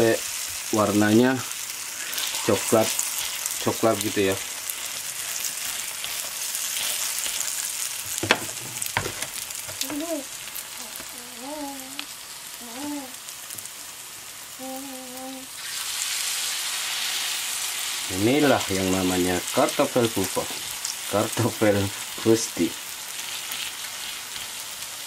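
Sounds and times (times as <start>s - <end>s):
potato pancakes sizzling in oil: 0.0s - 25.0s.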